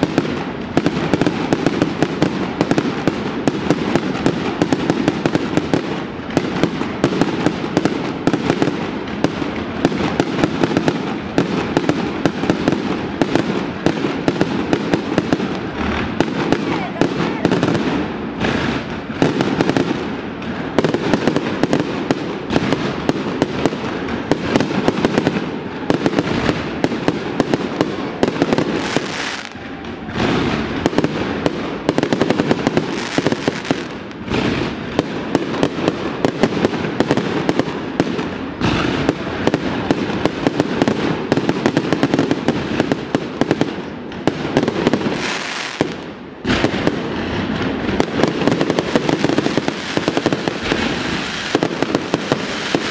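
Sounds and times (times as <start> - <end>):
fireworks bursting and crackling: 0.0 - 52.9.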